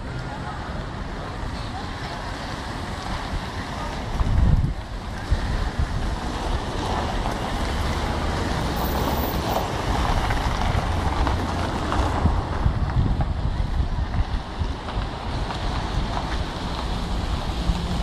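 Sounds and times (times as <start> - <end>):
cars creeping past: 0.0 - 18.0
wind buffeting microphone: 3.0 - 18.0.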